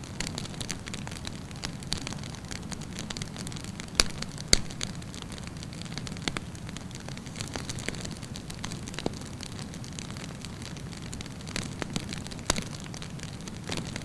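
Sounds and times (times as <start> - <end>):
campfire rumble and crackles: 0.0 - 14.0
loud fire pops: 0.0 - 14.0.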